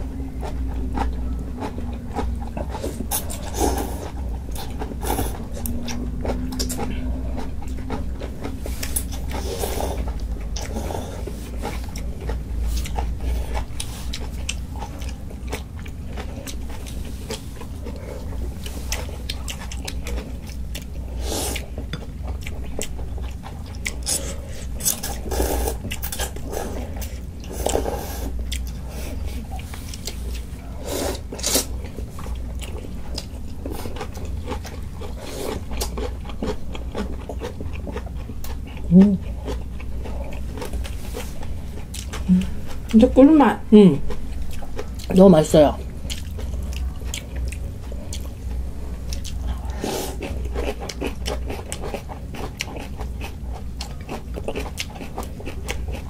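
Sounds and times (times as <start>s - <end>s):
chewing and mouth sounds: 0.0s - 43.1s, 44.0s - 56.0s.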